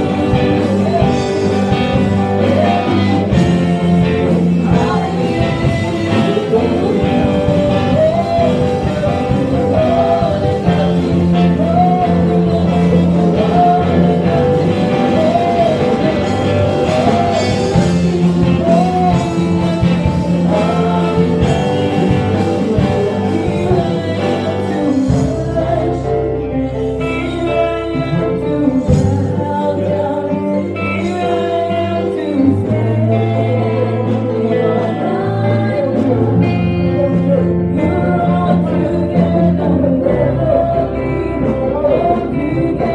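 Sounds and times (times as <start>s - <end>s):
bass line: 0.0s - 42.9s
electric guitar: 0.0s - 42.9s
group singing gospel song: 0.0s - 42.9s
keyboard: 0.0s - 42.9s.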